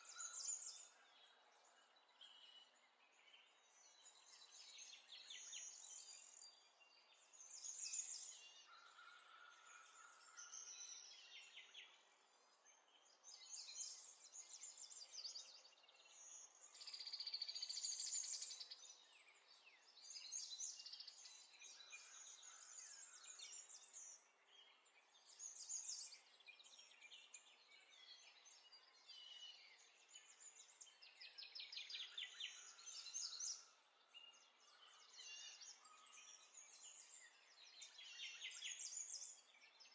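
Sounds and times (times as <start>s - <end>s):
faint birdsong chirps and trills: 0.0s - 39.9s.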